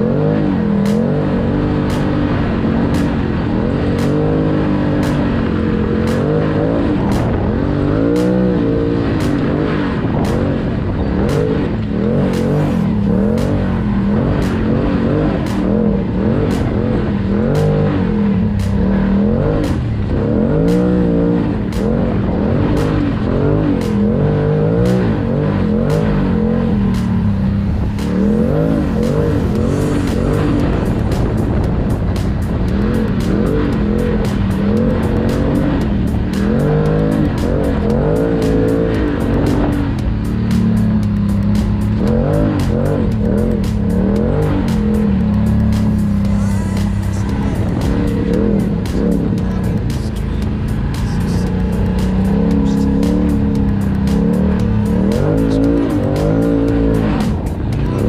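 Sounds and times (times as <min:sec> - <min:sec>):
engine revving: 0:00.0 - 0:58.0
music with steady beat: 0:00.0 - 0:58.0.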